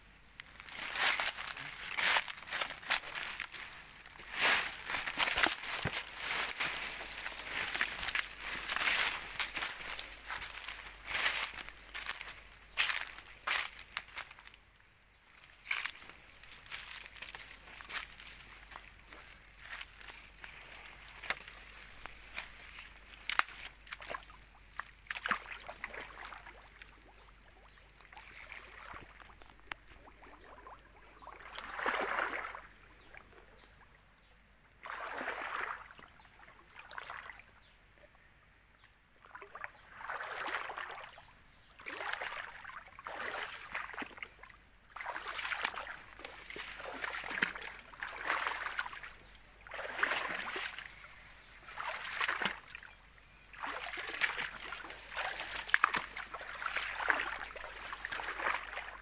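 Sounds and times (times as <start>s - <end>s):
wading steps splashing in stream: 0.4s - 14.3s, 15.7s - 32.7s, 34.8s - 36.1s, 39.2s - 59.0s.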